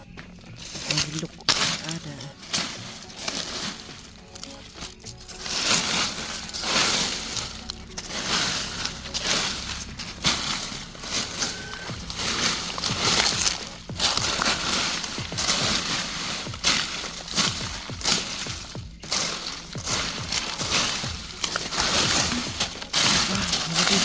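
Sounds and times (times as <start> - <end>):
dry leaves rustling by hand: 0.0 - 24.0.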